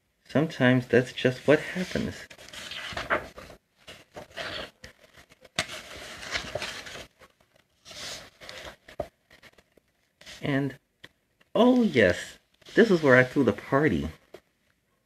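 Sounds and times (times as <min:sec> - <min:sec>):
book pages turning: 0:01.6 - 0:11.9, 0:12.5 - 0:14.5.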